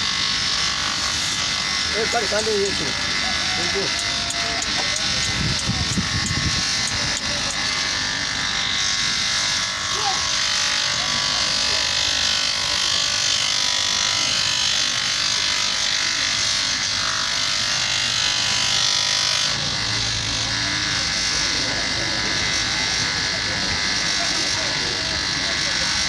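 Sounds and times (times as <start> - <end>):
bench grinder motor running: 0.0 - 26.0.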